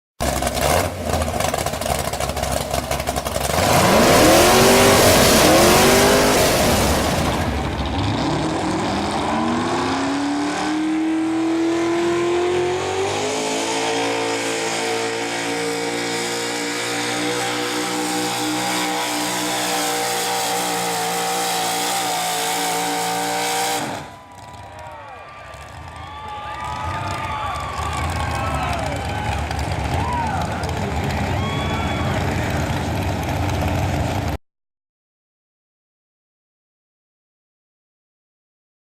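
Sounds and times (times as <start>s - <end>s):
truck engine at full throttle: 0.2s - 34.4s.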